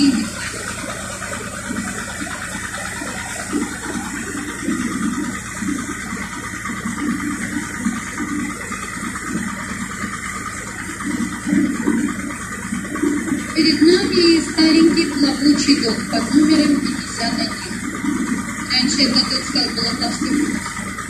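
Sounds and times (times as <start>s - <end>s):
low boat engine drone: 0.0s - 21.0s
water rushing along boat hull: 0.0s - 21.0s.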